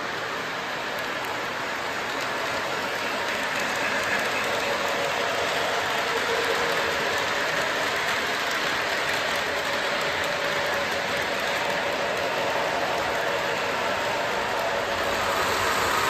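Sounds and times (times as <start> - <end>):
model train motors whirring: 0.0 - 16.0
metal wheels rolling on track: 1.9 - 16.0.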